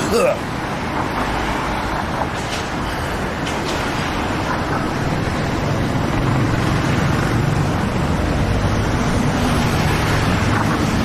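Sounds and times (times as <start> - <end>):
street traffic roar: 0.0 - 11.0.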